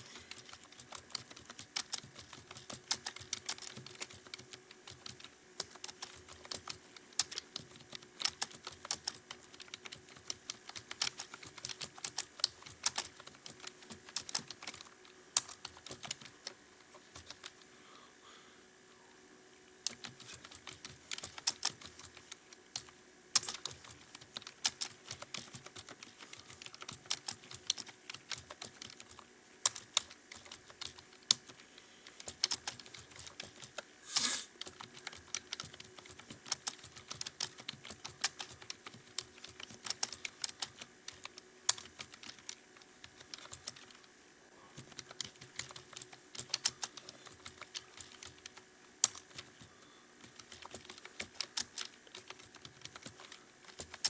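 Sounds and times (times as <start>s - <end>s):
keyboard keys clicking: 0.2s - 17.6s, 19.8s - 33.8s, 34.6s - 44.1s, 44.8s - 54.0s.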